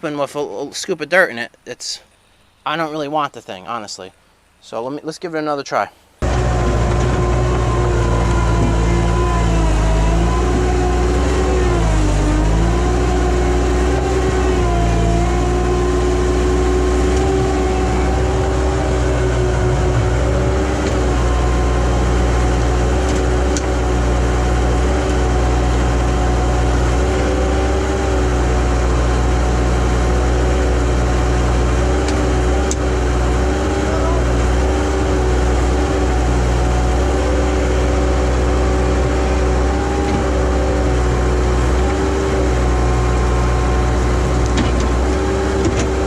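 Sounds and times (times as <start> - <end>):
diesel engine at high throttle: 6.2 - 46.0.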